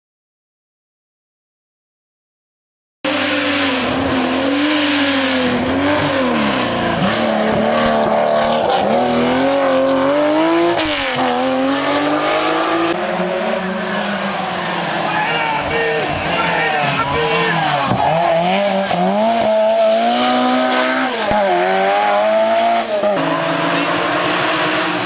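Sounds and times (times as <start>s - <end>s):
rally car engine revving: 3.1s - 25.0s.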